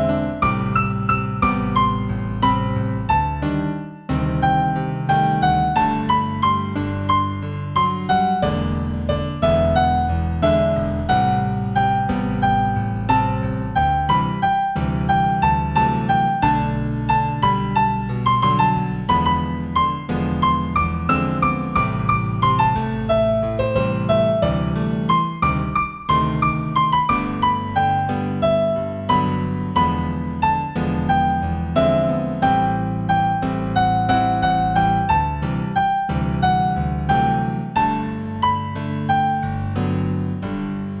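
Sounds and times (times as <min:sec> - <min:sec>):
gentle solo piano melody: 0:00.0 - 0:41.0.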